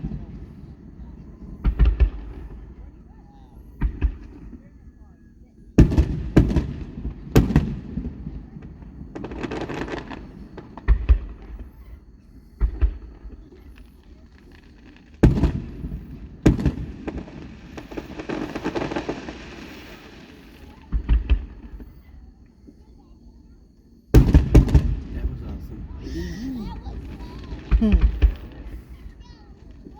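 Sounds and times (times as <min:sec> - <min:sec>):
fireworks crackling: 0:00.0 - 0:04.8, 0:05.8 - 0:23.1, 0:24.1 - 0:29.9
fireworks bangs and booms: 0:00.0 - 0:29.9.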